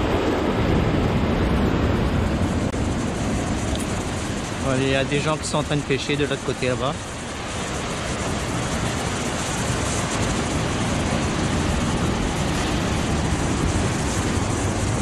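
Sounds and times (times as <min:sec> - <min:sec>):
surf breaking around boulders: 0:00.0 - 0:15.0.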